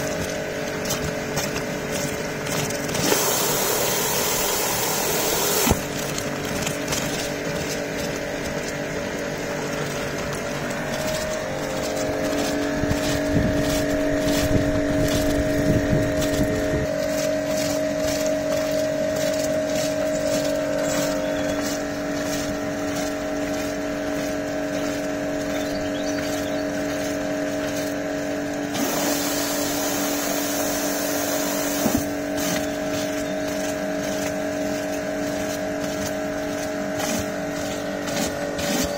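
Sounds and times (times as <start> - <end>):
pressure washer motor hum: 0.0 - 38.9
water jet hissing on paving: 2.7 - 6.5, 9.2 - 38.9.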